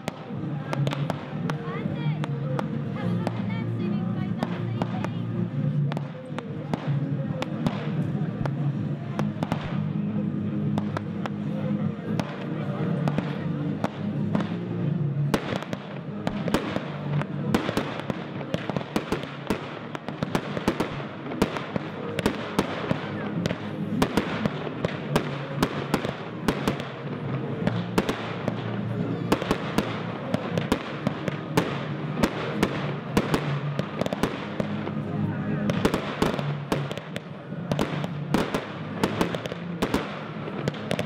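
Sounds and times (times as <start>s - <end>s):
fireworks bangs and crackles: 0.0s - 41.0s.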